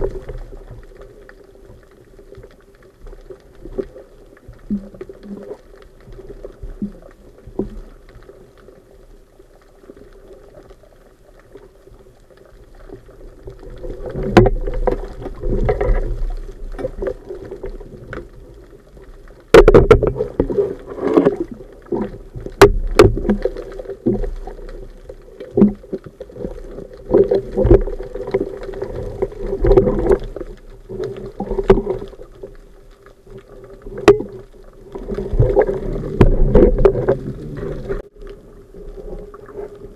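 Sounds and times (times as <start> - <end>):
underwater water rushing and bubbling: 0.0 - 39.9.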